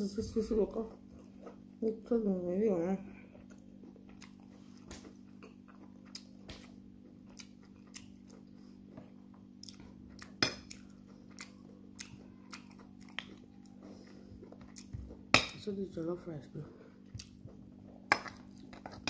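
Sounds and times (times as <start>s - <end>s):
soft chewing: 0.6s - 2.2s, 2.9s - 15.3s, 16.6s - 19.0s.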